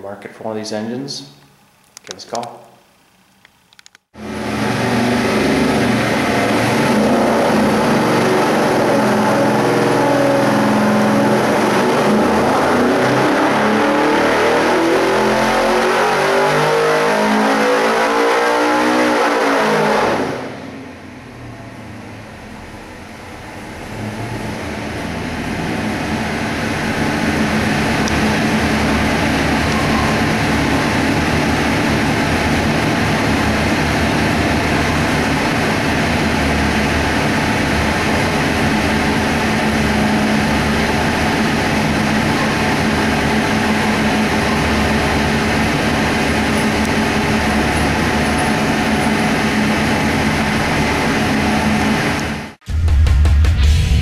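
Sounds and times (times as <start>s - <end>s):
loud engine running steadily: 4.2s - 52.6s.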